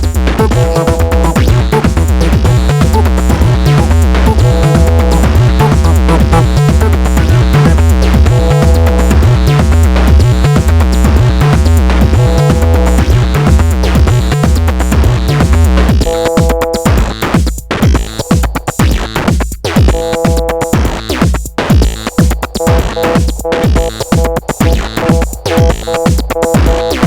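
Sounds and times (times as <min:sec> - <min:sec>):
modular synthesizer lines: 0:00.0 - 0:16.9, 0:21.9 - 0:27.0
electronic drum hits: 0:00.0 - 0:27.0
heavy bass: 0:00.0 - 0:27.0.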